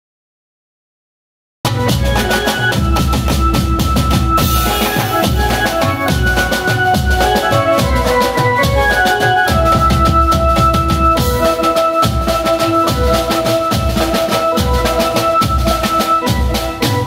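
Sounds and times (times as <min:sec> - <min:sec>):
drum-kit beat: 0:01.7 - 0:17.0
melody of held notes: 0:01.7 - 0:17.0.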